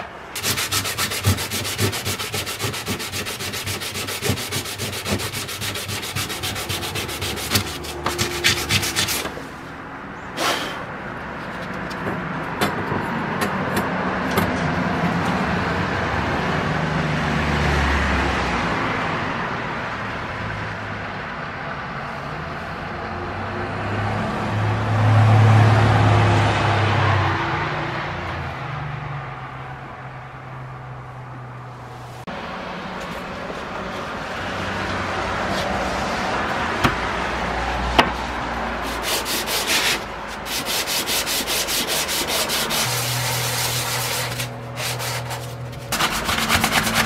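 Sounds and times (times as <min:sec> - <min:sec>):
vehicle passing: 0:00.0 - 0:47.0.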